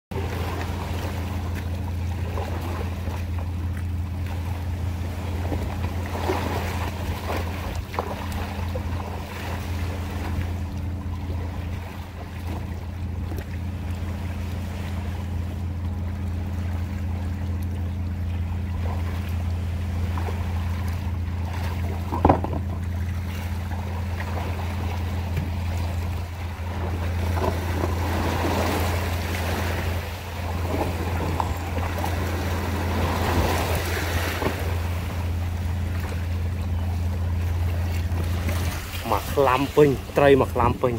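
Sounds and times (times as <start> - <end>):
steady low hum: 0.1 - 40.9
waves lapping at rocks: 0.1 - 40.9.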